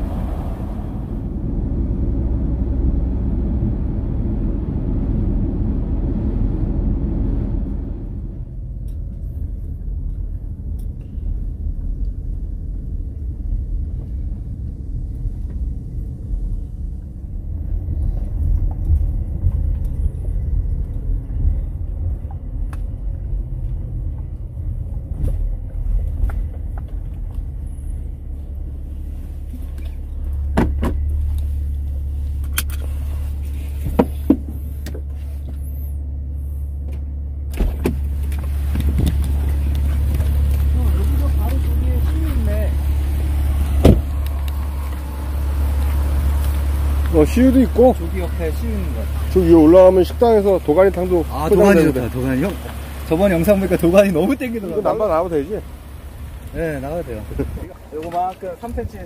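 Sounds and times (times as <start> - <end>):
low engine rumble: 0.0 - 59.0
tyre and road noise: 0.0 - 59.0.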